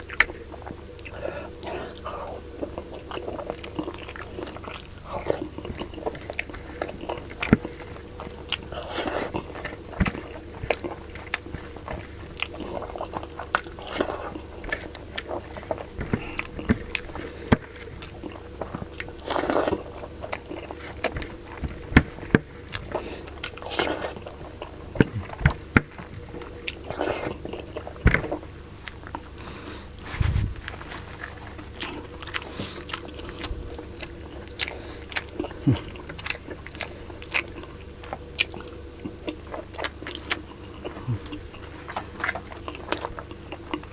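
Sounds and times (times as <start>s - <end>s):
mouth smacking and chewing: 0.0s - 30.0s, 30.6s - 43.9s
low hum: 0.0s - 43.8s
food crunching: 0.0s - 43.9s.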